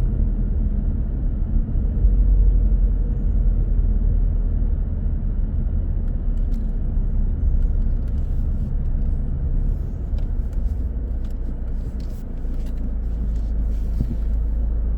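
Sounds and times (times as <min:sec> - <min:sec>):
car tyres and engine rumble: 0:00.0 - 0:14.9.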